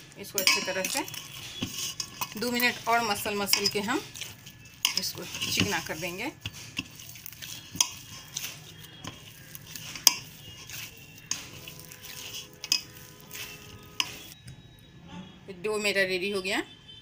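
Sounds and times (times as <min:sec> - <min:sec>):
dough being kneaded by hand: 0:00.0 - 0:14.4.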